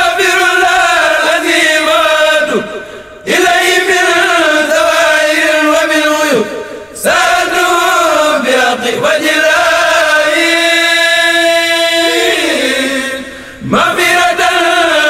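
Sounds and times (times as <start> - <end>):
men chanting without accompaniment: 0.0 - 15.0.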